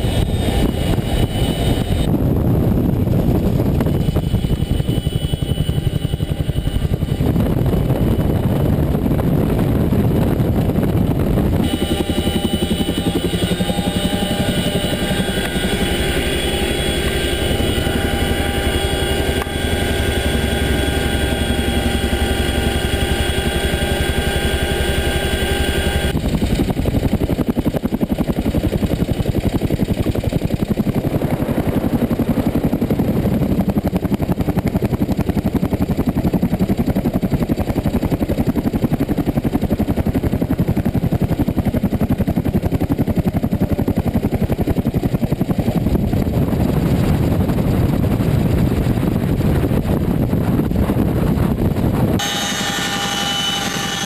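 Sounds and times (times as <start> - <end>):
helicopter rotor chop: 0.0 - 54.0
helicopter turbines whining: 0.0 - 54.0
wind noise: 0.0 - 54.0.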